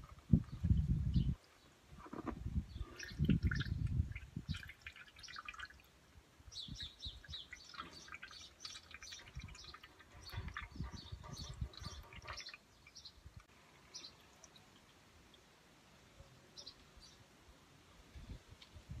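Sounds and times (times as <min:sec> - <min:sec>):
small birds chirping: 0:00.3 - 0:15.5, 0:16.1 - 0:17.3.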